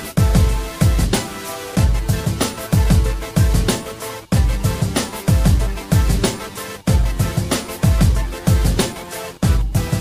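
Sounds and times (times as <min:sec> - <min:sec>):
held synth chords: 0:00.0 - 0:10.0.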